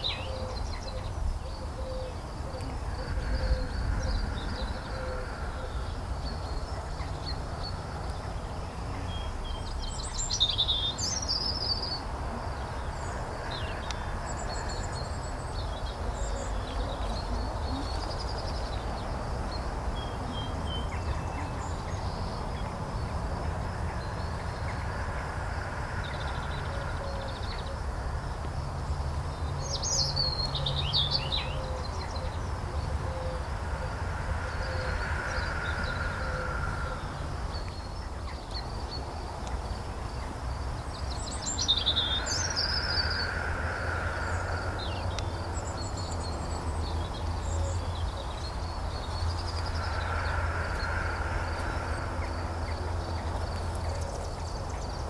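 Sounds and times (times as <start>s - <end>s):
birds chirping and calling: 0.0s - 28.1s, 29.3s - 55.0s
low outdoor rumble: 0.0s - 55.0s.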